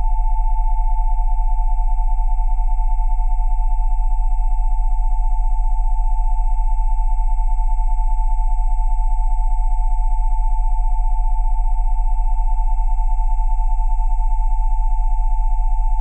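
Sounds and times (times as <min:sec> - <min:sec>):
pulsing electronic sine tones: 0:00.0 - 0:16.0.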